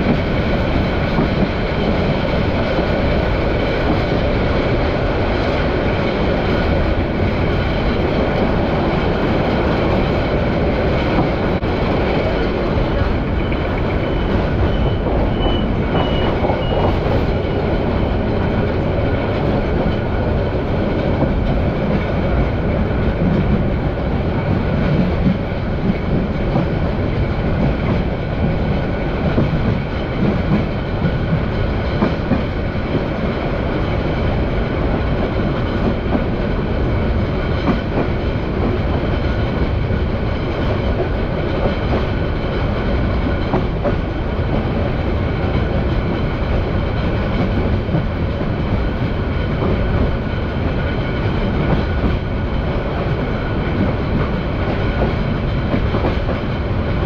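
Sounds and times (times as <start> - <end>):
clickety-clack of rails: 0.0 - 57.0
train wheels rumbling on rails: 0.0 - 57.0.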